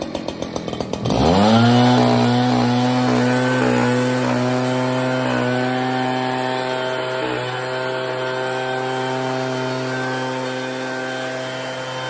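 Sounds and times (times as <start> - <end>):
leaf blower engine running: 0.0 - 12.0.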